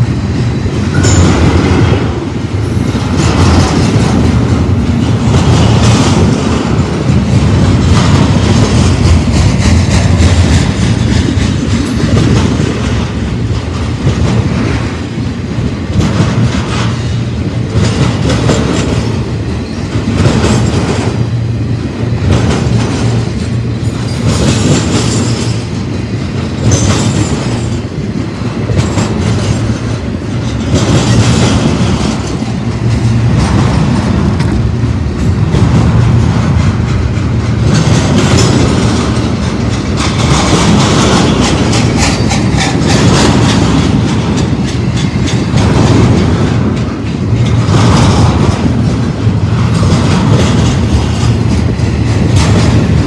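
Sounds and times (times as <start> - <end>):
freight train wheels rumbling: 0.0 - 53.0
wheels clacking over rail joints: 0.0 - 53.0.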